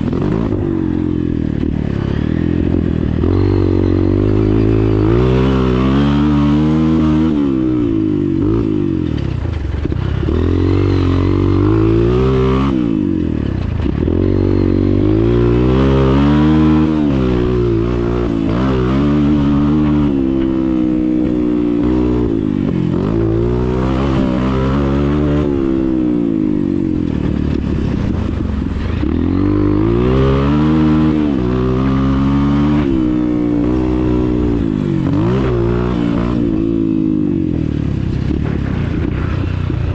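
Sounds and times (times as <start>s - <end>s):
motocross bike engine revving: 0.0s - 39.8s.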